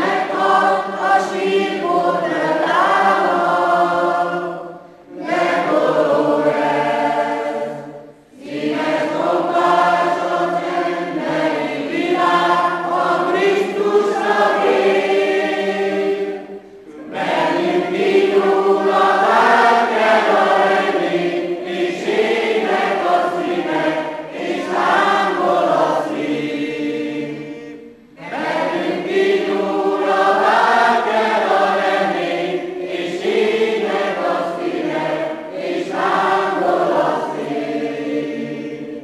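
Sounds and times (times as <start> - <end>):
group of men and women singing: 0.0 - 39.0.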